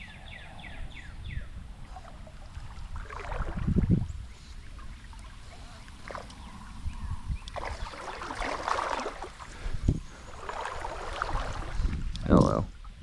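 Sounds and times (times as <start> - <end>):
wind rumble on microphone: 0.0 - 13.0
water sloshing and splashing: 1.8 - 13.0.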